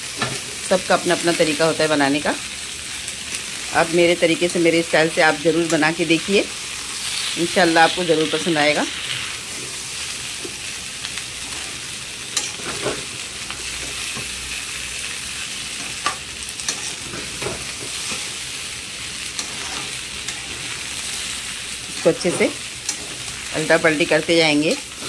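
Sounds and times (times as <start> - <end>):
potatoes sizzling in hot oil: 0.0 - 25.0.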